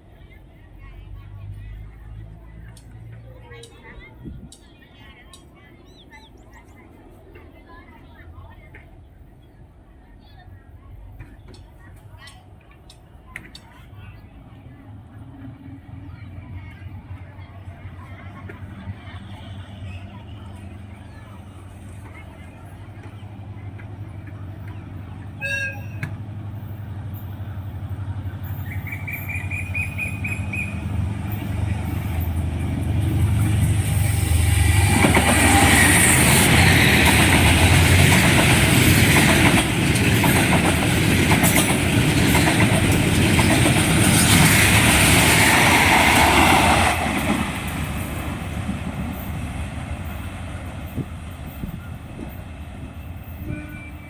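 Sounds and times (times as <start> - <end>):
diesel locomotive engine drone: 0.0 - 54.0
train wagons rumbling over rails: 0.0 - 54.0.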